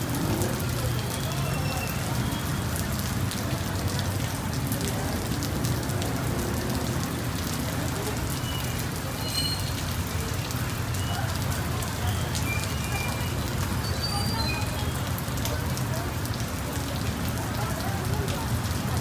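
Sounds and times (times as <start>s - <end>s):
passing traffic rumble: 0.0s - 19.0s
rain on a street: 0.0s - 19.0s
raindrops ticking: 0.0s - 19.0s.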